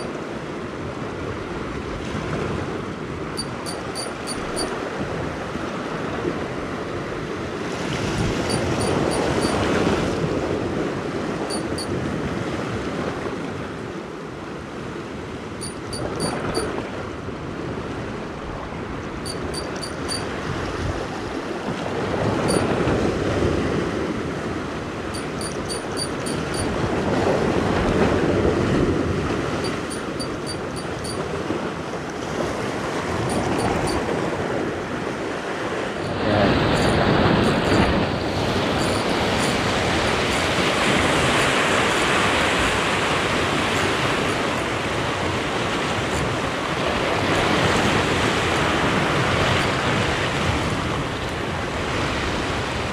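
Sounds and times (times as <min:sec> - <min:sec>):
waves breaking on rocky shore: 0:04.2 - 0:19.2, 0:20.2 - 0:25.1, 0:25.8 - 0:52.9.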